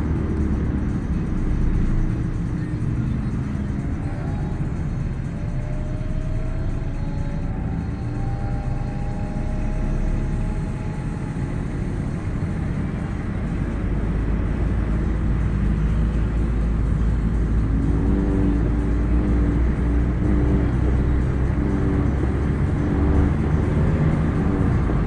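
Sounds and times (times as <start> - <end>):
car engines rumbling: 0.0 - 25.0.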